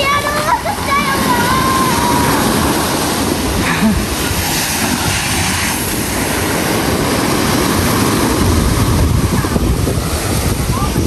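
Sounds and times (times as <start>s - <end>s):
small waves breaking on beach: 0.0s - 11.0s
wind rumbling on microphone: 0.0s - 11.0s.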